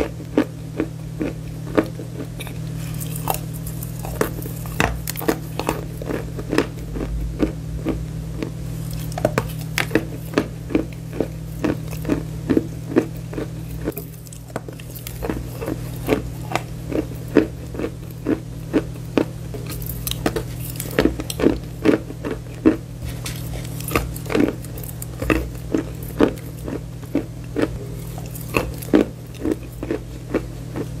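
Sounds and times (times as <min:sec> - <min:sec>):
chalk crunching while chewed: 0:00.0 - 0:31.0
low electrical hum: 0:00.0 - 0:31.0.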